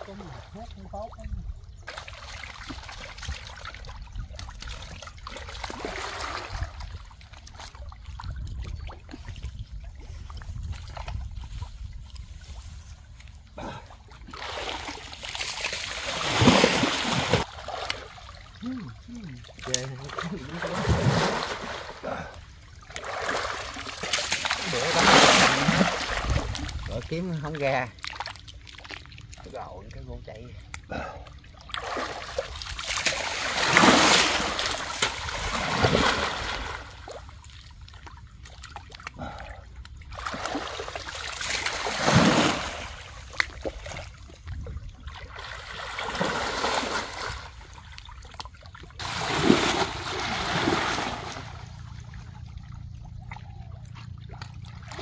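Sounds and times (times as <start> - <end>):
water splashing as people wade: 0.0 - 55.0.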